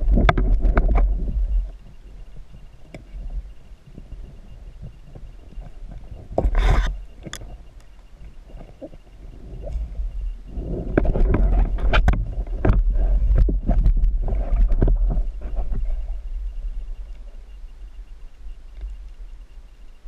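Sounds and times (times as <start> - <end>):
underwater knocks and scraping: 0.0 - 17.5
low rumble of water: 0.0 - 20.0.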